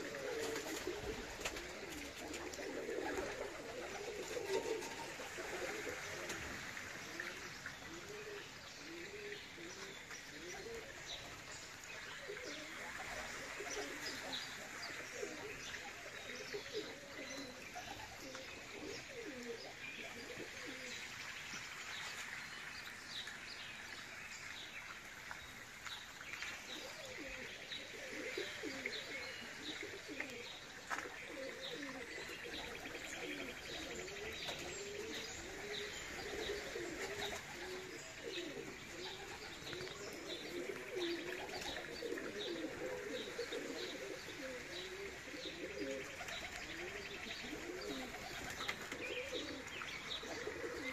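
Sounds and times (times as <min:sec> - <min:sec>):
pigeons cooing: 0:00.0 - 0:21.2, 0:26.7 - 0:50.9
small birds chirping: 0:07.0 - 0:50.9.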